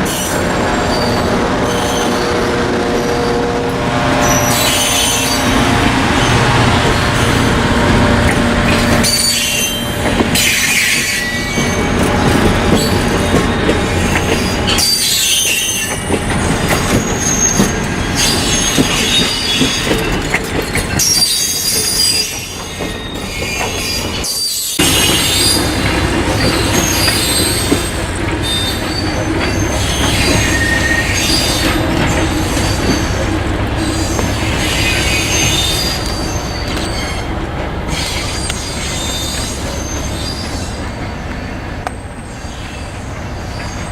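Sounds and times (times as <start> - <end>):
train clickety-clack: 0.0 - 43.9
train wheels squealing on rails: 0.0 - 43.9.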